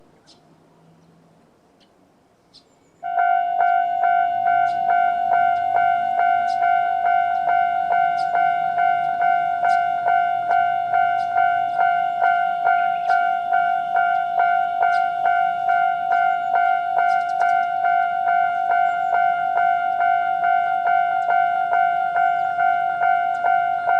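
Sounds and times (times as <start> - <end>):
level crossing electronic bell: 3.0 - 23.9.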